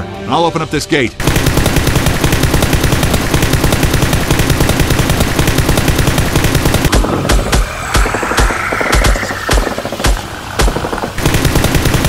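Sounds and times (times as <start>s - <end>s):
automatic machine-gun fire: 1.2s - 12.0s.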